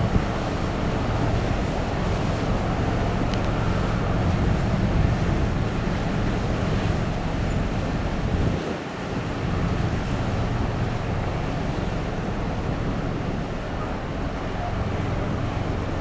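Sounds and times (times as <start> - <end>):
ship low rumble: 0.0 - 16.0
wind buffeting microphone: 0.0 - 16.0.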